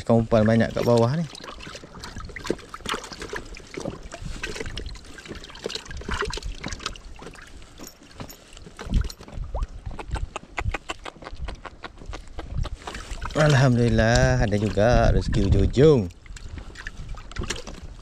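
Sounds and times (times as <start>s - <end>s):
water splashing against kayak: 0.0s - 18.0s.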